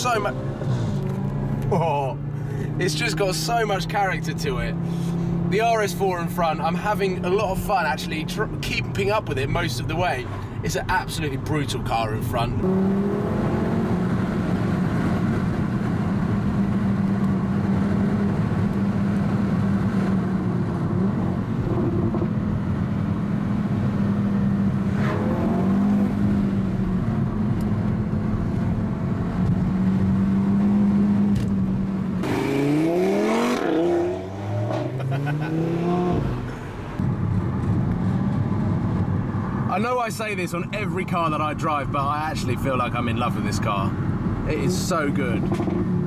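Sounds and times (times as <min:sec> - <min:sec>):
car engine revving: 0:00.0 - 0:10.2, 0:11.1 - 0:39.7, 0:41.3 - 0:46.0.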